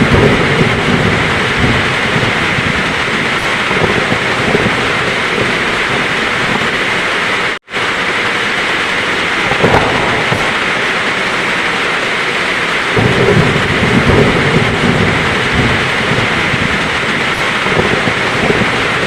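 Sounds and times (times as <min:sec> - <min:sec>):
heavy rain falling: 0:00.0 - 0:19.0
low thunder rumble: 0:00.0 - 0:19.0
thunder crack: 0:00.0 - 0:19.0.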